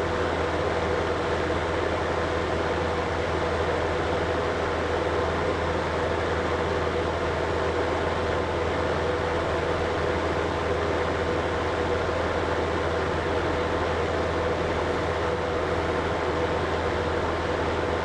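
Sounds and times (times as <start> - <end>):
air conditioner running: 0.0 - 18.0.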